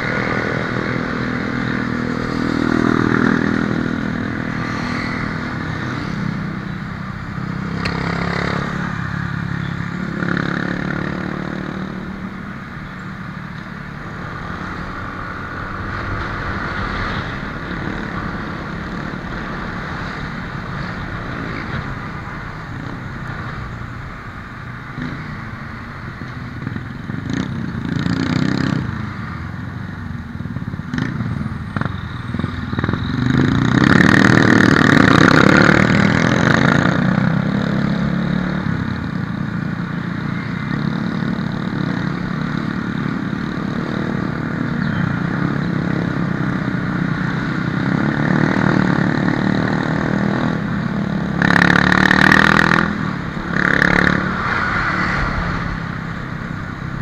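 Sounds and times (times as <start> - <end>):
passing motorcycles and cars: 0.0 - 57.0
road noise: 0.0 - 57.0.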